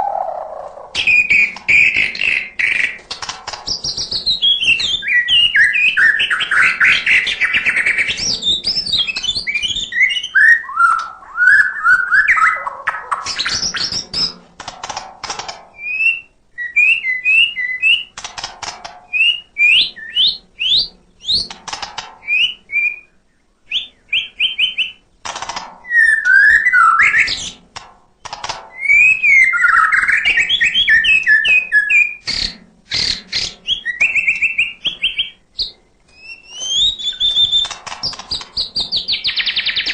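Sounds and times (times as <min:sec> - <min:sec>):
bird singing whistled phrases: 0:00.0 - 0:03.0, 0:03.8 - 0:14.3, 0:15.8 - 0:18.1, 0:19.1 - 0:21.4, 0:22.2 - 0:25.0, 0:25.9 - 0:27.5, 0:28.8 - 0:37.7, 0:38.6 - 0:39.9.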